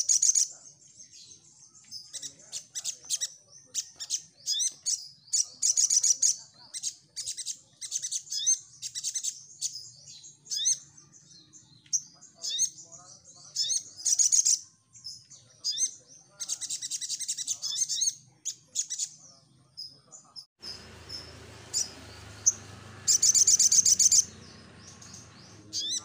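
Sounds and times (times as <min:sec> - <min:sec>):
bird chirping and trilling: 0:00.0 - 0:26.0.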